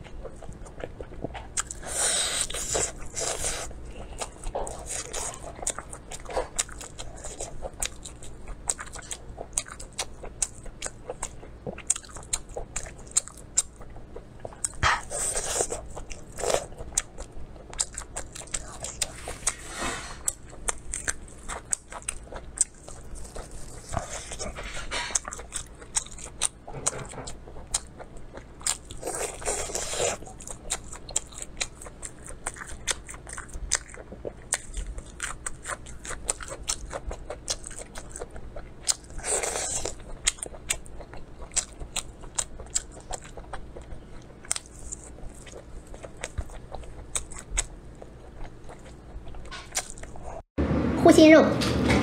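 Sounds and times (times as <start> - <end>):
wet chewing mouth sounds: 0.0 - 50.4.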